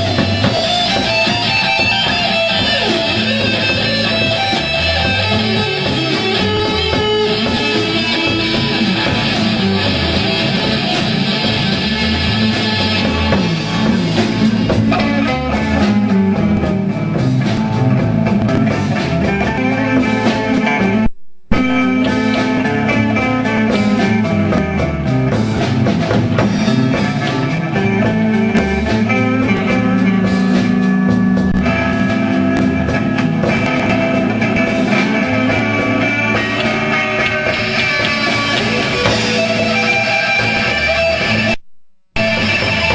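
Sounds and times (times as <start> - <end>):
rock band playing live: 0.0 - 41.6, 42.2 - 42.9.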